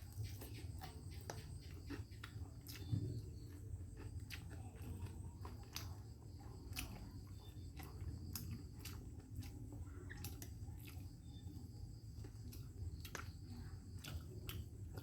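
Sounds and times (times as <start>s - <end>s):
chewing clicks: 0.0s - 15.0s.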